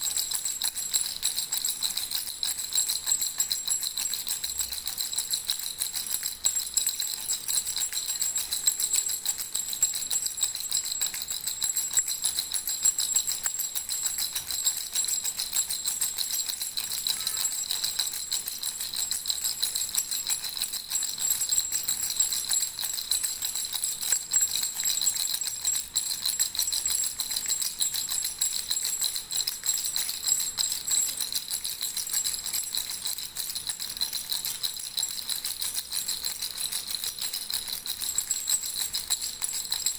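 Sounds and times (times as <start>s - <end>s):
baby rattle jingling: 0.0s - 9.7s, 16.6s - 39.9s.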